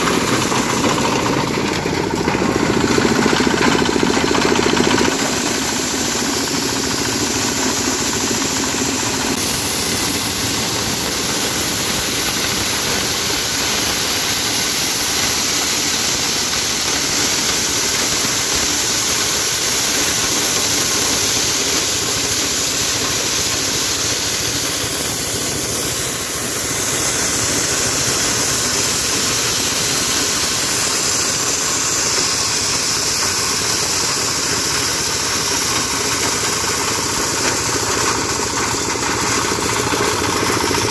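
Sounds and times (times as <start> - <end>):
corn sheller running: 0.0 - 40.9.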